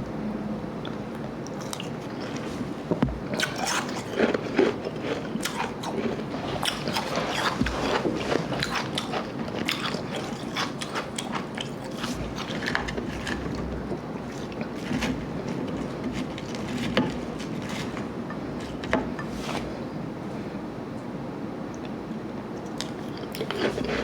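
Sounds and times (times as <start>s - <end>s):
ice being chewed: 1.4s - 19.3s, 22.6s - 24.0s.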